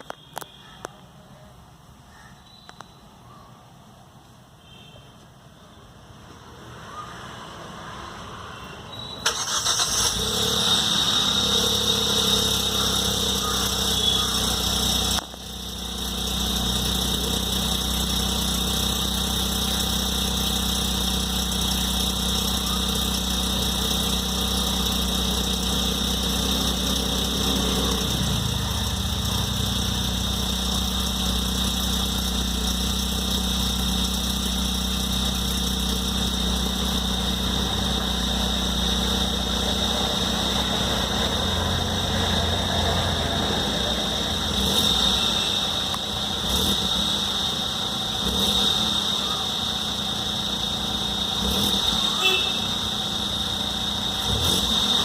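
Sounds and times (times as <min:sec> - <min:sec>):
car engine idling: 0:09.2 - 0:55.0.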